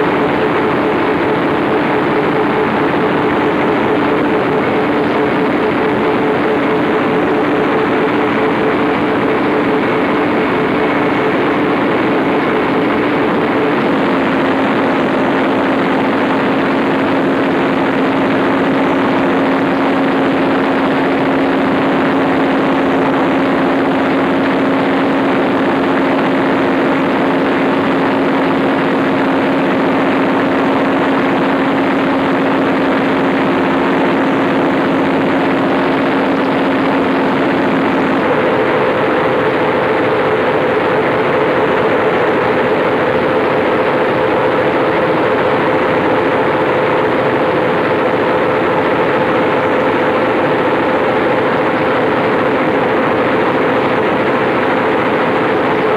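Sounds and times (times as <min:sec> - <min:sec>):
diesel generator engine running: 0:00.0 - 0:55.9.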